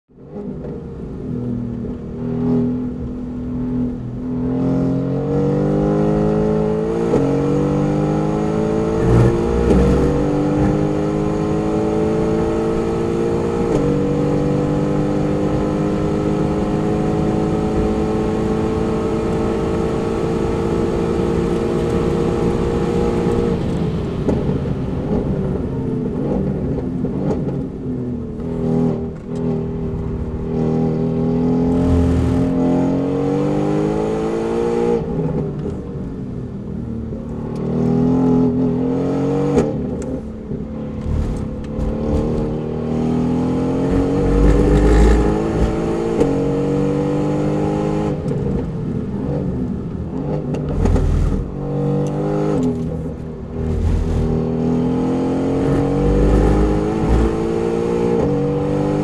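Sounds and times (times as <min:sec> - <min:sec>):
car engine accelerating: 0:00.2 - 0:59.0.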